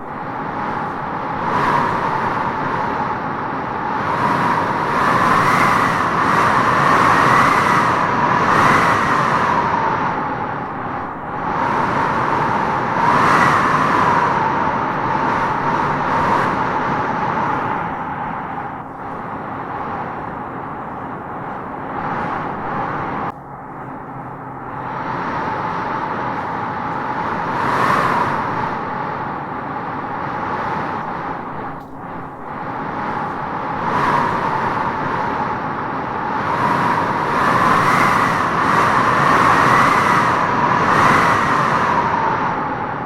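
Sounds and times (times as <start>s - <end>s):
wind howling through trees: 0.0s - 43.0s.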